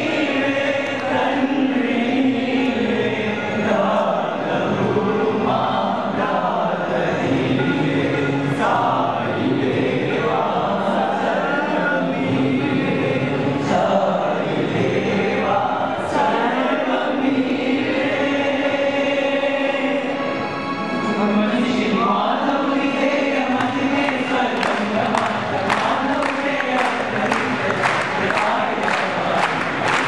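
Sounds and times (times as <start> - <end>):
male voices singing a chant: 0.0 - 20.4, 21.0 - 30.0.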